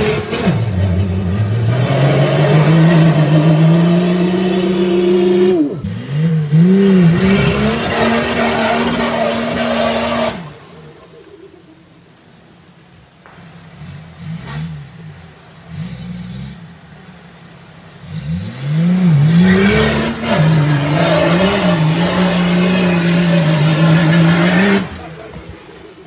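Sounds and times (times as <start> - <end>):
suv engine revving: 0.0 - 11.0, 13.4 - 26.0.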